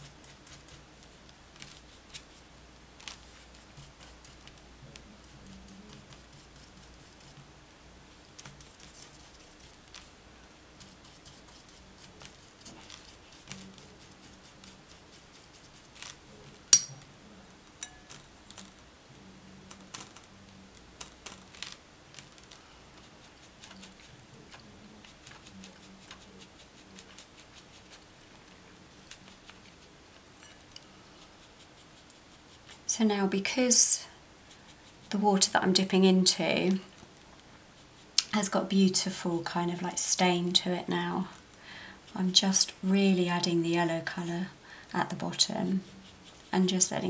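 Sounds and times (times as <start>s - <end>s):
brush tapping and scraping: 0.0s - 38.6s, 45.1s - 47.0s.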